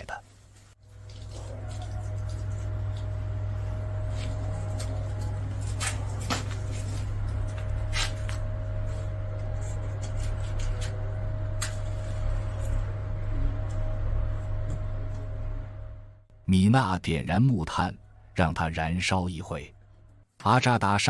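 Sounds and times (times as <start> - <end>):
steady low hum: 0.2 - 20.7.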